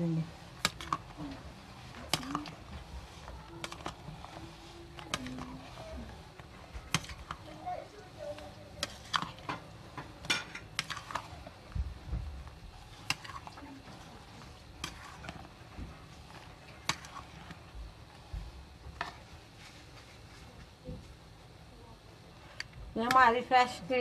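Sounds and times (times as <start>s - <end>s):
spoon stirring in bowl: 0.0s - 20.5s.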